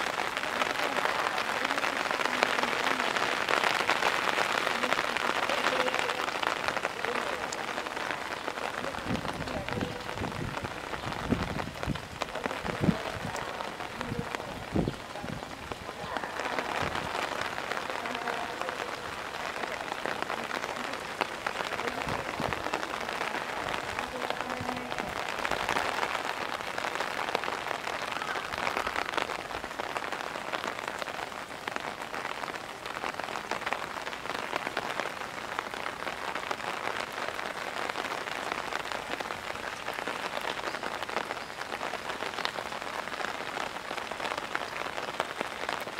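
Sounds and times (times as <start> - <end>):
heavy rain on hard surfaces: 0.0 - 45.9.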